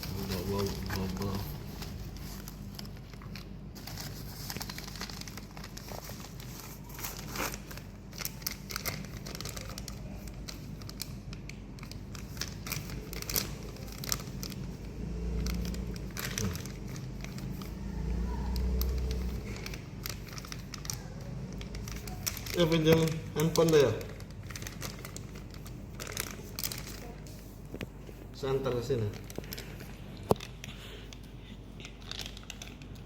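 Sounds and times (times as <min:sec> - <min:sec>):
plastic packaging crinkling: 0:00.0 - 0:33.0
steady low hum: 0:00.0 - 0:33.0.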